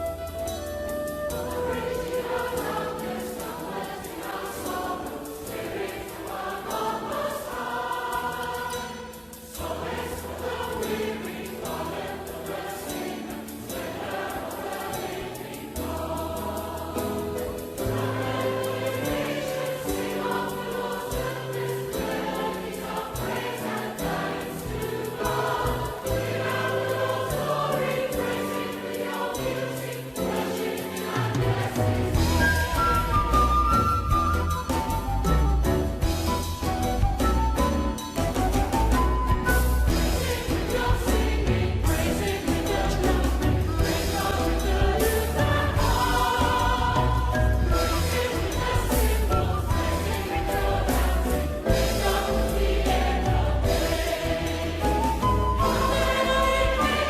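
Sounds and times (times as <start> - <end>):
choir singing a hymn: 0.0 - 57.0
instrumental accompaniment: 0.0 - 57.0.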